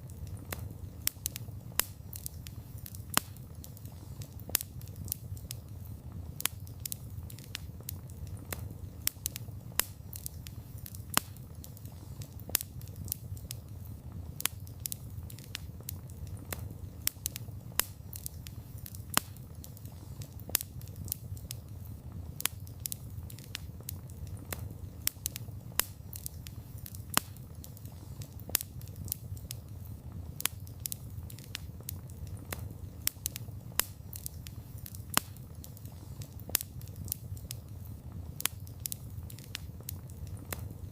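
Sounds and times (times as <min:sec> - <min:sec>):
campfire flames rumbling: 0:00.0 - 0:40.9
wood crackling and popping: 0:00.0 - 0:40.9.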